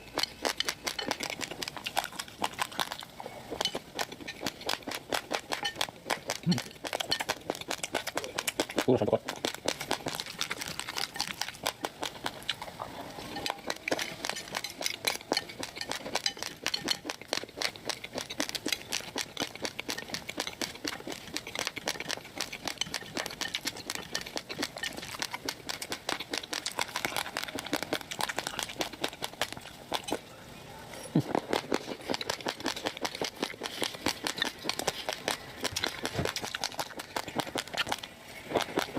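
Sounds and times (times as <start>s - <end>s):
rice grains being chewed: 0.0s - 38.9s.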